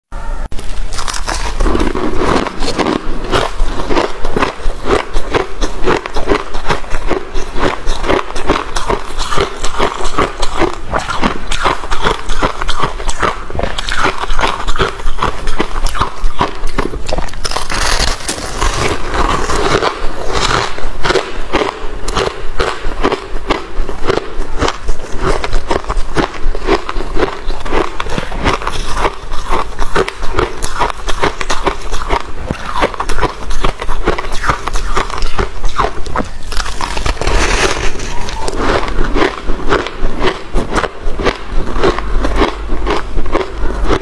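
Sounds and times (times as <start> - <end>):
chewing crunchy ice: 0.6 - 44.0.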